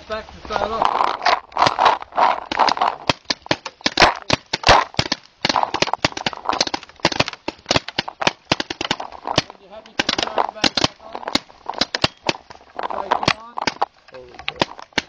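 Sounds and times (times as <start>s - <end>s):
paintball markers firing: 0.8s - 15.0s.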